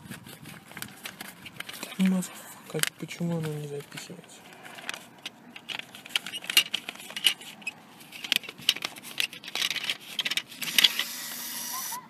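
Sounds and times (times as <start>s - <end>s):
paper banknote crinkling: 0.0s - 11.9s.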